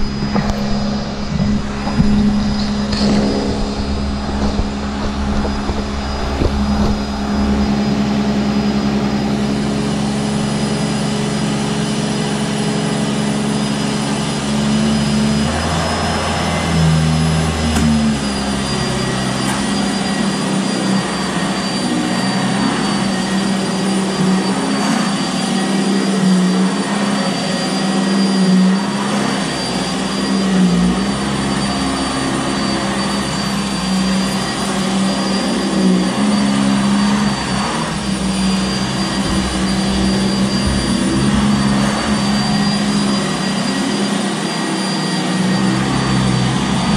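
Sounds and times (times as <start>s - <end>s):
upright vacuum cleaner running: 0.0s - 46.9s.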